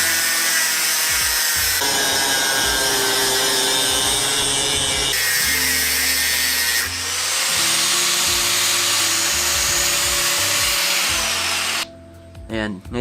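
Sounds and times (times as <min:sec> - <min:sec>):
angle grinder on steel: 0:00.0 - 0:11.9
background music: 0:00.0 - 0:13.0.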